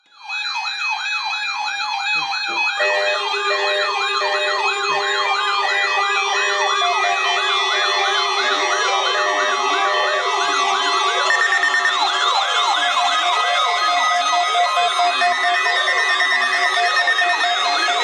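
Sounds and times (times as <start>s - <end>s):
electronic alert sirens wailing: 0.2s - 18.0s.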